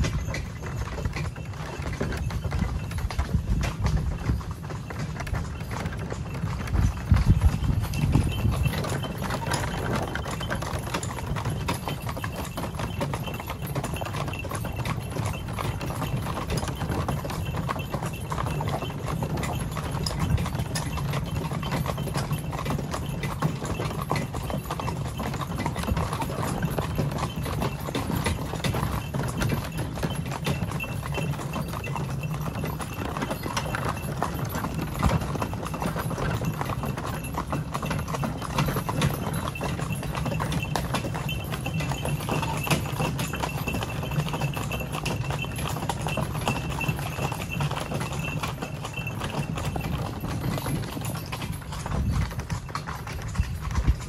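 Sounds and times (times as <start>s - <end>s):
horse hooves clip-clopping on dirt: 0.0s - 54.0s.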